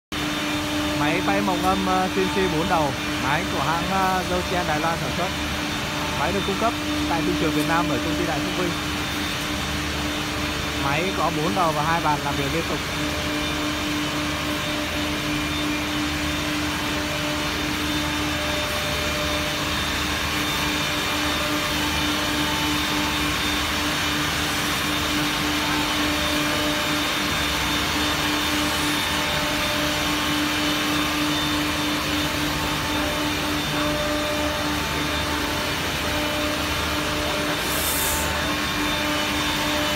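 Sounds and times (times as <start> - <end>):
hissing rush of wood cutting: 0.2 - 39.9
machine steady pitched tone: 0.2 - 39.9.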